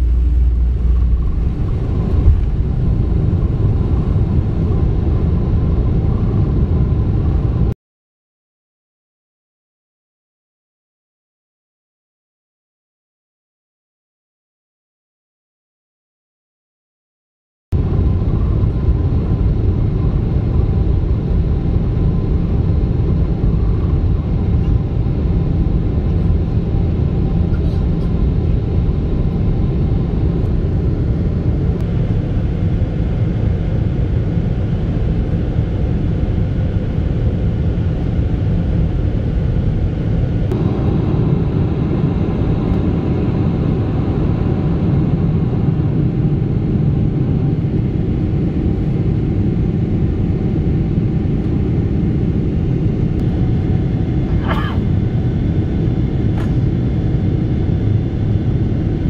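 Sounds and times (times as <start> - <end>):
jet engines in aircraft cabin: 0.0 - 7.8, 17.8 - 59.0.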